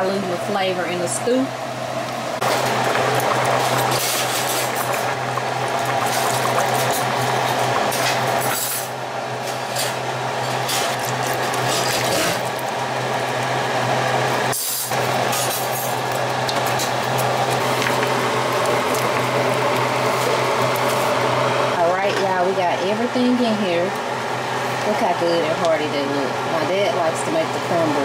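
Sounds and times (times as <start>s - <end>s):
pot boiling: 0.0s - 28.0s.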